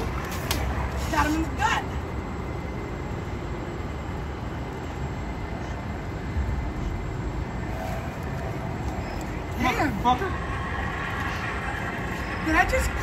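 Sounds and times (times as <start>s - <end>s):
low rumble of city noise: 0.0s - 13.0s.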